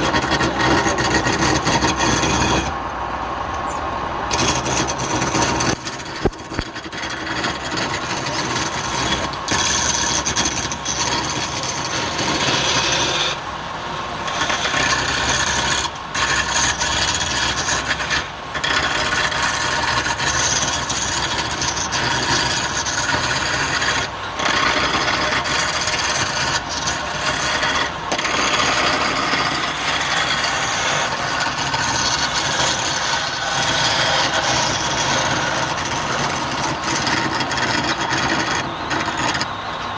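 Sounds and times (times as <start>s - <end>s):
lathe tool scraping wood: 0.0s - 2.8s, 4.3s - 13.5s, 14.1s - 39.9s.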